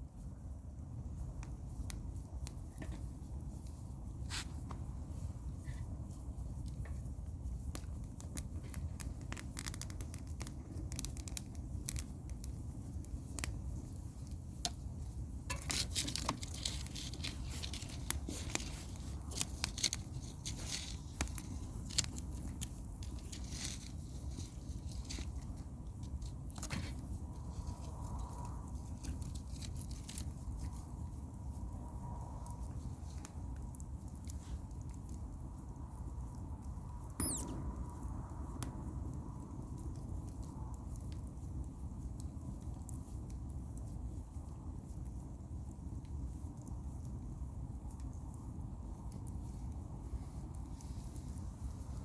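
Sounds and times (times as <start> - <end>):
bonfire crackling and popping: 0.0 - 52.0
fire low rush: 0.0 - 52.0.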